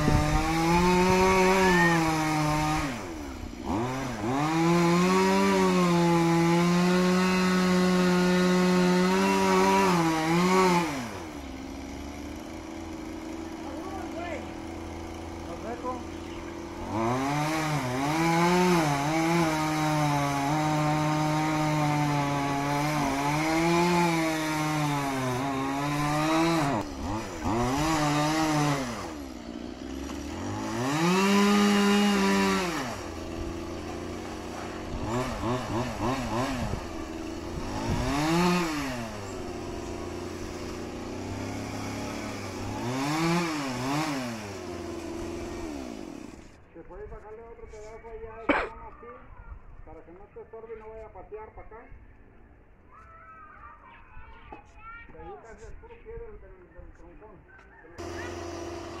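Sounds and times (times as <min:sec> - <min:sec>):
chainsaw revving and idling: 0:00.0 - 0:46.7, 0:58.0 - 0:59.0.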